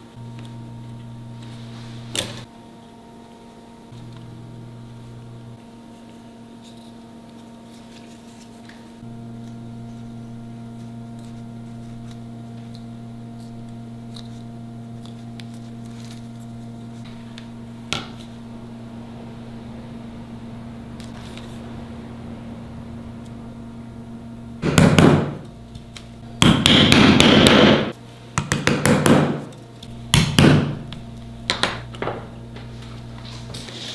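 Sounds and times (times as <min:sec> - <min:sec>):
electrical hum: 0:00.0 - 0:33.9.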